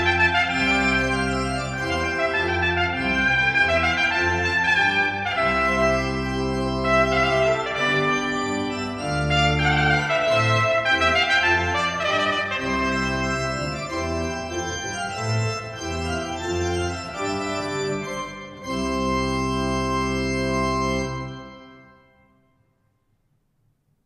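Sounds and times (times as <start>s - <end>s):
trumpet: 0.0s - 22.1s
pipe organ playing: 0.0s - 22.2s.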